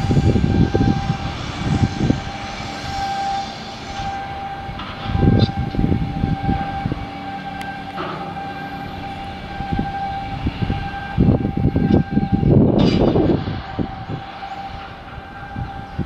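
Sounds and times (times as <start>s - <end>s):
machinery high whine: 0.0s - 16.0s.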